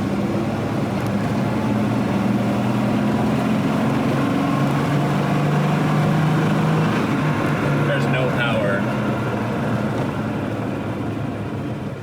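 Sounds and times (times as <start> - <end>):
car engine running from inside: 0.0 - 12.0.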